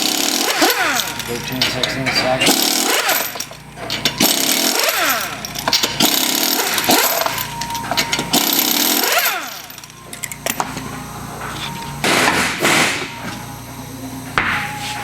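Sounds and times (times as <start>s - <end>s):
pneumatic impact wrench hammering: 0.0s - 13.5s.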